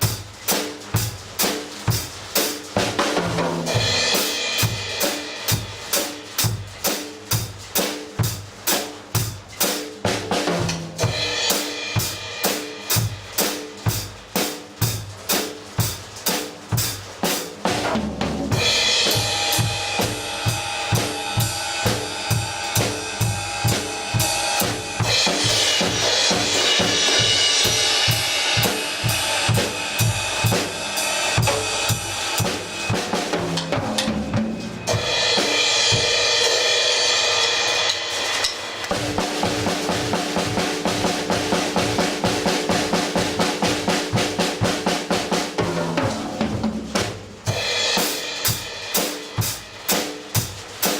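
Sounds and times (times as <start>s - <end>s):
bass drum and snare beat: 0.0s - 36.6s, 37.2s - 50.9s
cymbals washing: 3.6s - 17.7s, 18.5s - 45.1s, 47.4s - 50.9s.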